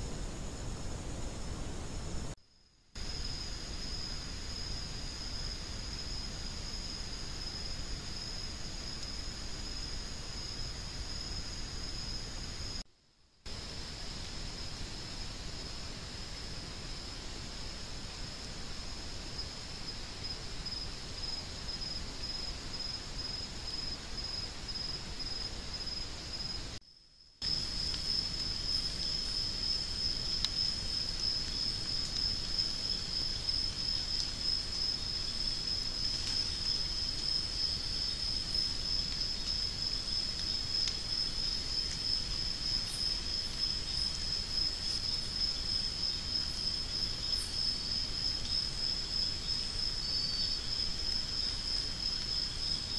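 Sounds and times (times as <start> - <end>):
insects trilling: 0.0 - 12.8, 13.5 - 52.9
lower insect trill: 0.0 - 12.9, 13.5 - 52.9
microphone hiss: 0.0 - 52.9.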